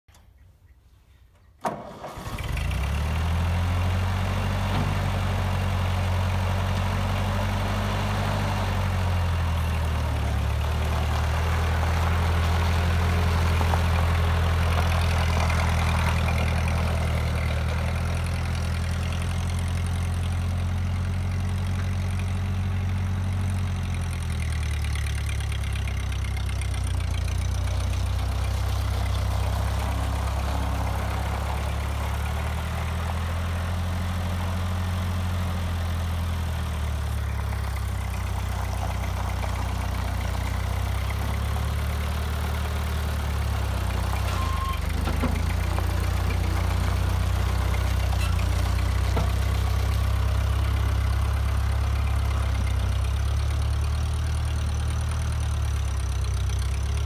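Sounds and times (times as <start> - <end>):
tractor engine running: 1.6 - 57.0.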